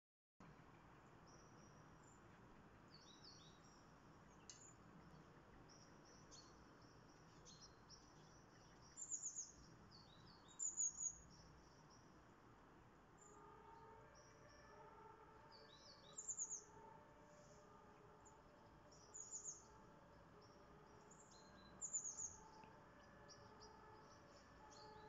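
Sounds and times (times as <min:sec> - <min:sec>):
songbirds chirping and whistling: 0:02.9 - 0:12.2, 0:13.2 - 0:25.0.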